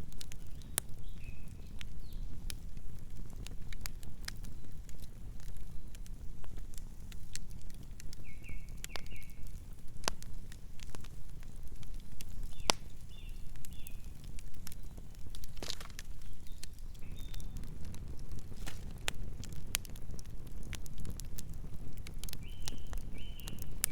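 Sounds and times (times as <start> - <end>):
flames rumbling: 0.0 - 23.9
wood crackling and popping: 0.0 - 23.9.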